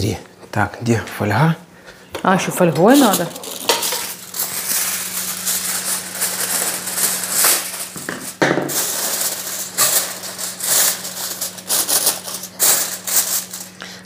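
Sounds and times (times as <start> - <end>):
aluminium foil crinkling: 2.4 - 14.0.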